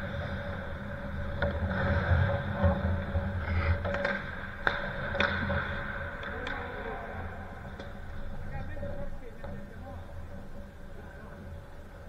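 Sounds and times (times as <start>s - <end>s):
hockey sticks and puck clacking: 0.0s - 12.0s
low rumble and hum of rink: 0.0s - 12.0s.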